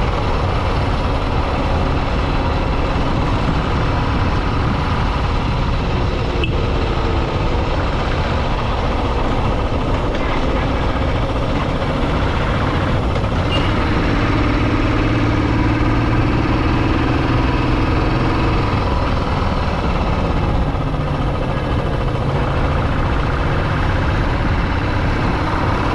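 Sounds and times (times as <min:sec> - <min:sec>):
motorcycle engine: 0:00.0 - 0:25.9.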